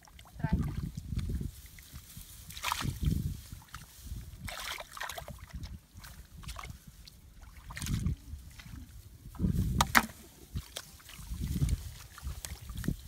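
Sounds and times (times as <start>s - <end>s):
muddy water sloshing and splashing: 0.0s - 13.0s.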